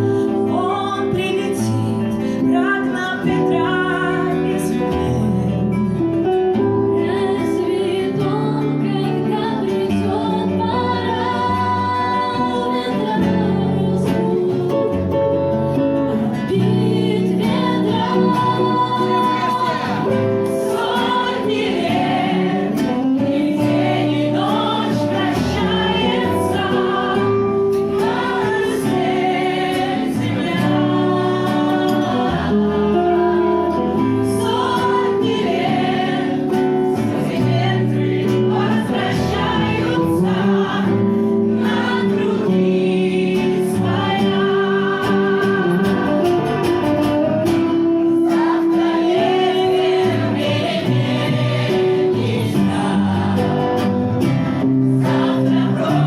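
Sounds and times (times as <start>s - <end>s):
voices singing together: 0.0s - 56.0s.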